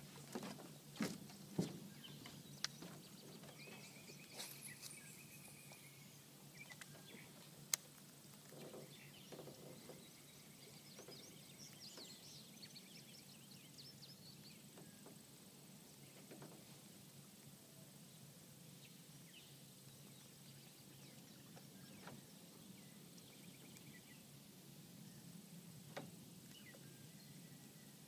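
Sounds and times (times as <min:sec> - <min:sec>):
birds chirping: 0:00.2 - 0:16.6, 0:17.6 - 0:25.5, 0:26.4 - 0:28.0.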